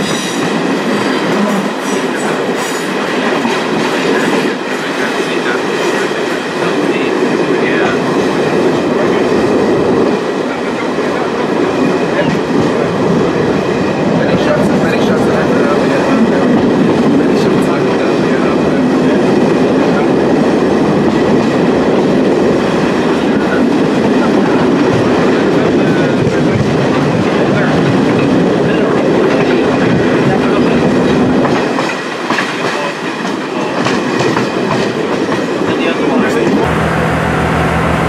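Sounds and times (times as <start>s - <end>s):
train wheels clickety-clack on rail: 0.0s - 38.0s.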